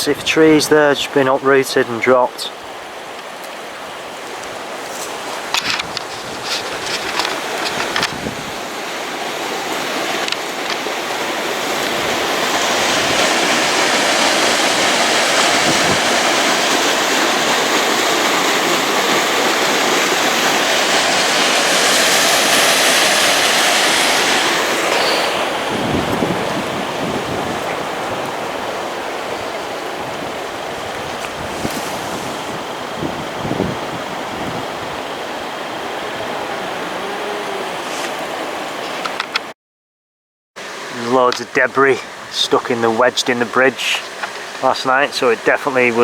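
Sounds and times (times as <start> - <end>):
river water rushing: 0.0 - 39.5, 40.6 - 46.0.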